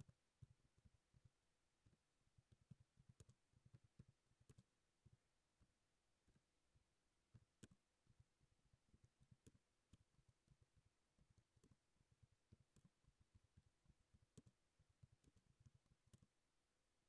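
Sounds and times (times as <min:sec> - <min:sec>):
faint keyboard typing clicks: 0:00.0 - 0:06.4, 0:07.2 - 0:16.5.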